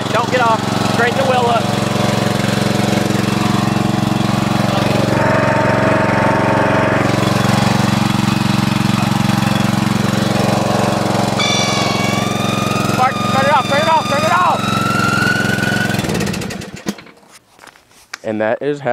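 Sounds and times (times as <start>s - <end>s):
high steady whine: 0.0s - 16.1s
lawn mower engine running: 0.0s - 17.4s.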